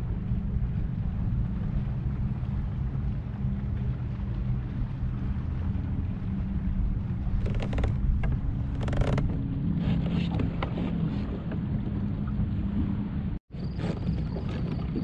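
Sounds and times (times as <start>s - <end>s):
boat engines droning: 0.0s - 15.0s
wind on microphone: 0.0s - 15.0s.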